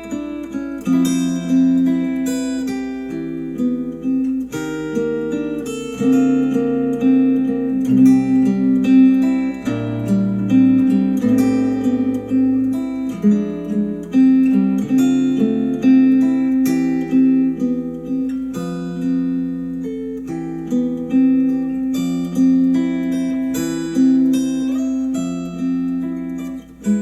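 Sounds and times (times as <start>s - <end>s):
plucked acoustic guitar: 0.0s - 27.0s.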